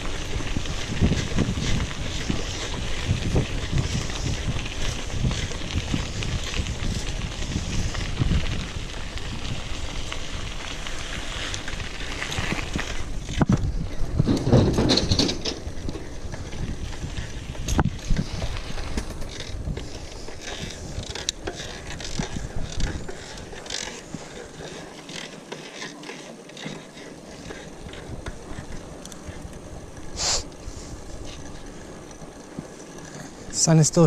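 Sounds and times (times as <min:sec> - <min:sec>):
bike frame rattling: 0:00.0 - 0:34.0
bike tyres rumbling on dirt: 0:00.0 - 0:34.0.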